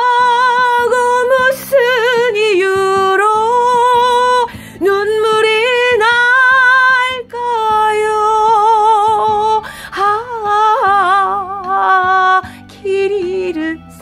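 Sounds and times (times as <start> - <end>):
soft accompaniment: 0.0 - 14.0
woman singing a slow ballad: 0.0 - 14.0.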